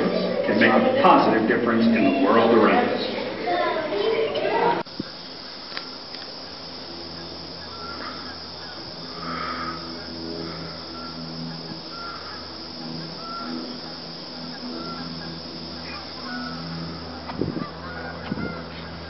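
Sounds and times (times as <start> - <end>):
steady low hum: 0.0 - 19.0
birds calling: 2.0 - 19.0.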